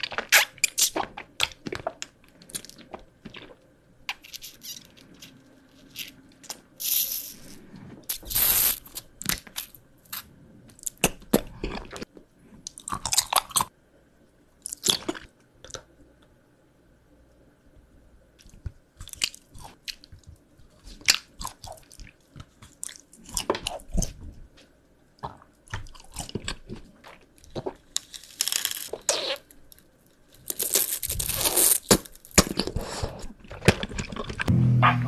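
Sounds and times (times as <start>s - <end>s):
person crunching and chewing candy: 0.0s - 13.7s, 14.6s - 15.9s, 18.4s - 24.2s, 25.2s - 34.5s.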